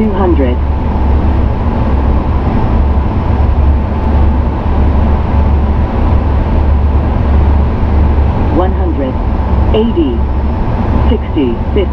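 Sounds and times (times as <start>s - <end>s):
deep cockpit hum: 0.0s - 11.9s.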